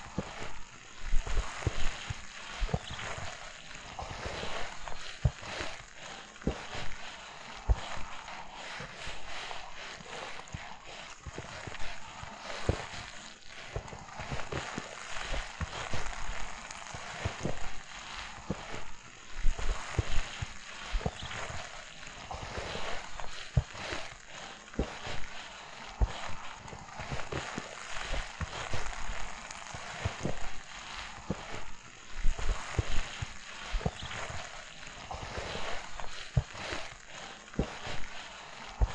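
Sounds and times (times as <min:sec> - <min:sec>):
footsteps crunching in snow: 0:00.0 - 0:38.9.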